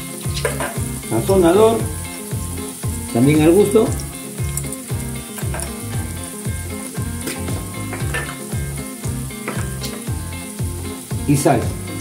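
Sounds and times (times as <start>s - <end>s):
background music with beat: 0.0s - 12.0s
onion sizzling in hot oil: 0.0s - 12.0s.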